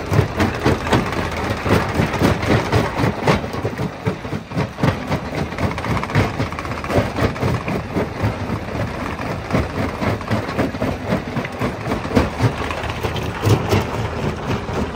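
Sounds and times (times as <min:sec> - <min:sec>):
rock crusher machine drone: 0:00.0 - 0:14.9.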